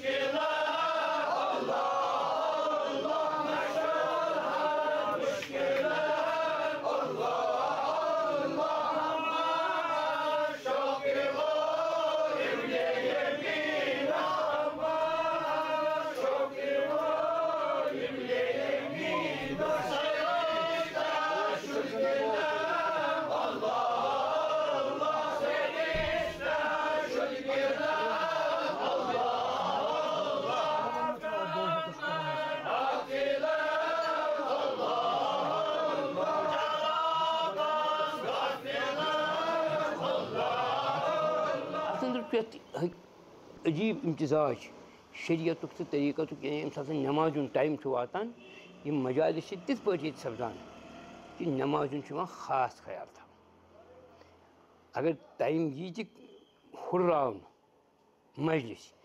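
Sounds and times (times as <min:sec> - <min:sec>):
men chanting devotional verses: 0:00.0 - 0:43.0, 0:43.6 - 0:53.3.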